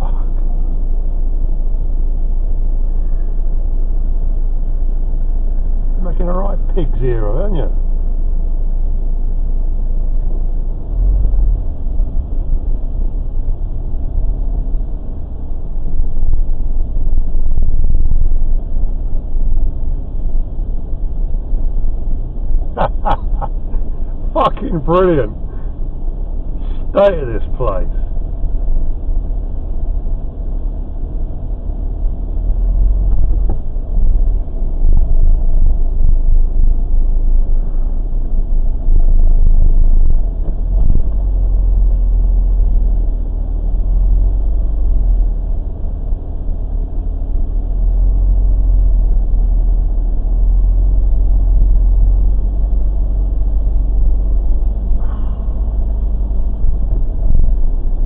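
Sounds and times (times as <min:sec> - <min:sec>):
low rumble of engine and tyres: 0:00.0 - 0:58.0.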